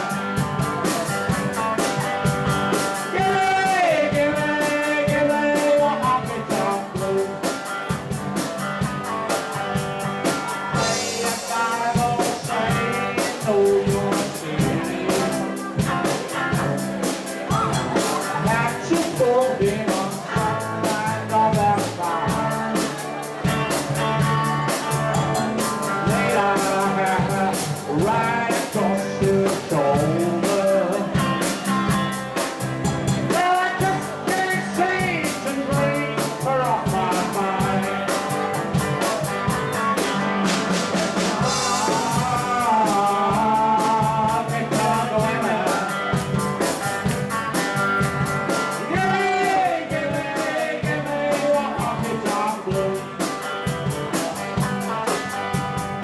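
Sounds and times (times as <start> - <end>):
drum kit beat: 0.0 - 56.0
guitar: 0.0 - 56.0
person singing: 2.7 - 7.8, 10.2 - 46.4, 48.0 - 55.3.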